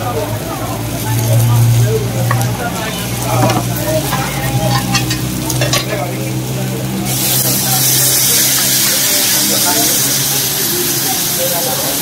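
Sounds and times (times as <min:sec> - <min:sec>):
loud sizzling hiss: 0:00.0 - 0:12.0
sizzling plates clinking: 0:01.1 - 0:12.0.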